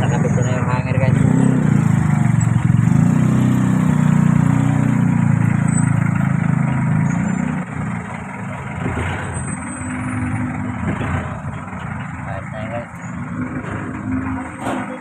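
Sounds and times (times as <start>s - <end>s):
engine idling with pulsing drone: 0.0s - 15.0s.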